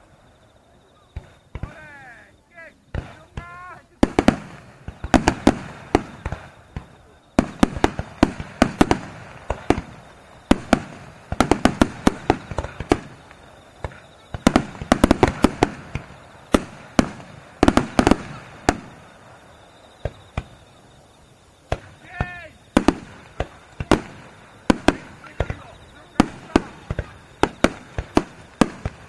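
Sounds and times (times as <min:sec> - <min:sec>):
fireworks bursting: 0:02.9 - 0:29.0.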